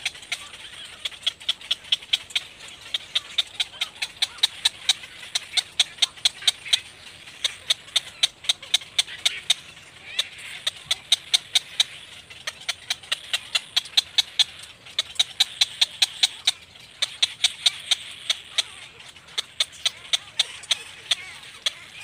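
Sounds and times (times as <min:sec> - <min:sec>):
cormorants clicking calls: 0:00.0 - 0:22.0.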